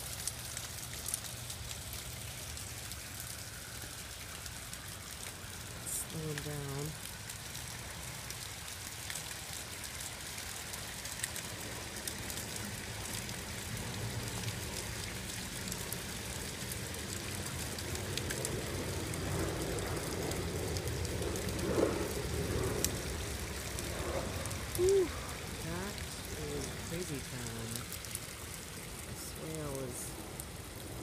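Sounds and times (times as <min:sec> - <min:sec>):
steady rain: 0:00.0 - 0:31.0
water drips splashing: 0:00.0 - 0:31.0
water running down rain chain: 0:00.0 - 0:31.0.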